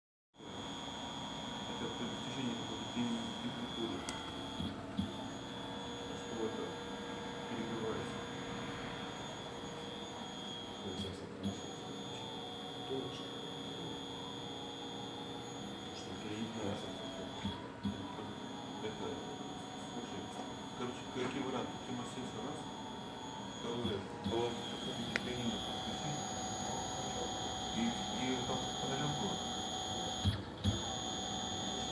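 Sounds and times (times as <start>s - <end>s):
faint steady hums: 0.4s - 31.9s
servo motor high-pitched whine: 0.4s - 31.9s.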